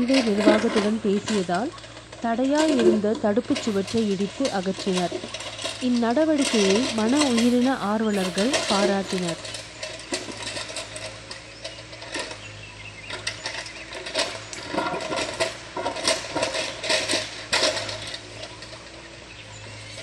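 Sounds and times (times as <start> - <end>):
faint engine hum: 0.0 - 20.0.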